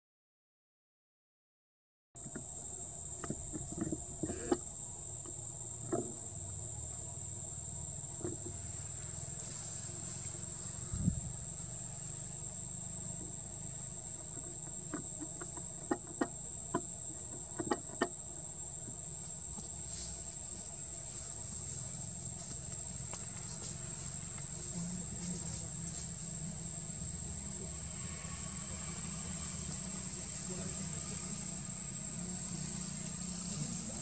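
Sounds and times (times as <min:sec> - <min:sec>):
high-pitched insect drone: 0:02.2 - 0:34.0
low outdoor rumble: 0:02.5 - 0:34.0.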